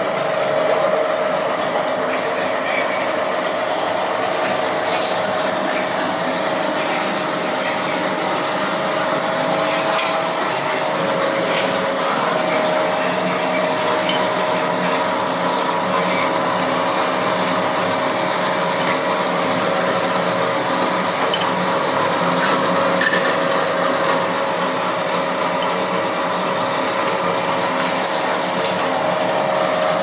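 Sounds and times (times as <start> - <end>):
seam rolling machine humming: 0.0 - 30.0.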